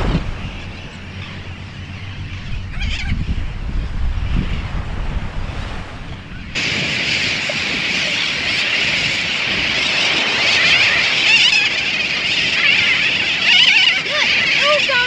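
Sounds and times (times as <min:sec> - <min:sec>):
seabird colony calling: 0:00.0 - 0:15.0.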